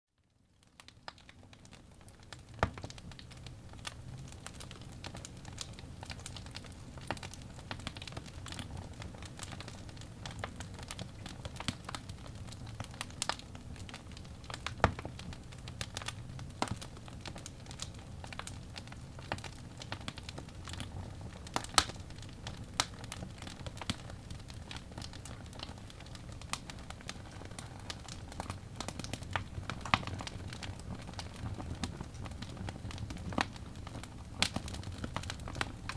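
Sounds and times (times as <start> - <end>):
fire crackling and popping: 0.2 - 35.9
fire rumbling: 0.7 - 35.9.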